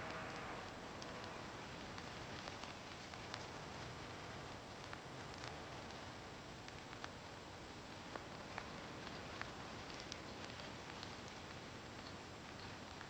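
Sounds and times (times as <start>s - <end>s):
light rain hiss: 0.0s - 13.0s
raindrops ticking: 0.0s - 13.0s.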